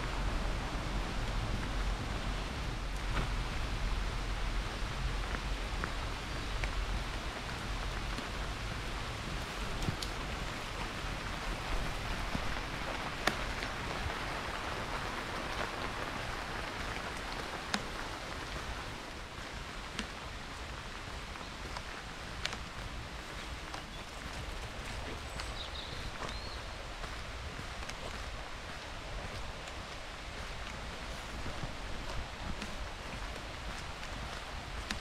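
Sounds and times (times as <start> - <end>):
rain falling on leaves: 0.0 - 35.0
raindrops ticking close by: 0.0 - 35.0.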